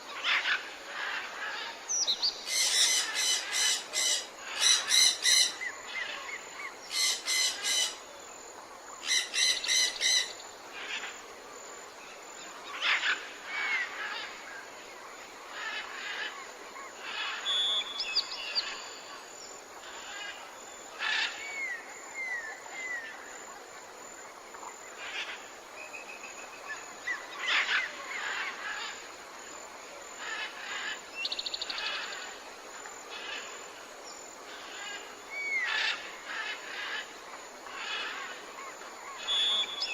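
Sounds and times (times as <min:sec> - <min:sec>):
insects hissing: 0:00.0 - 0:39.9.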